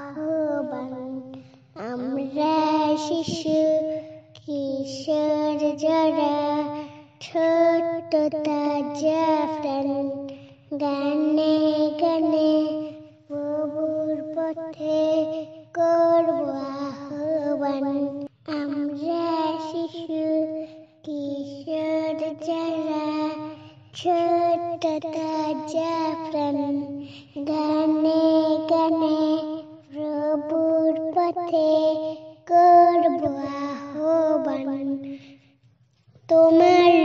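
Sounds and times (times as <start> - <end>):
girl singing unaccompanied: 0.0 - 37.0.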